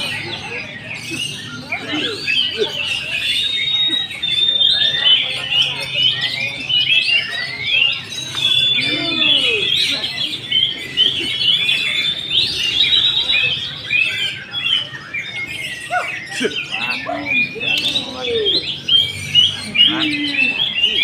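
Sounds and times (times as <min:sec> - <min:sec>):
bird singing varied song: 0:00.0 - 0:21.0.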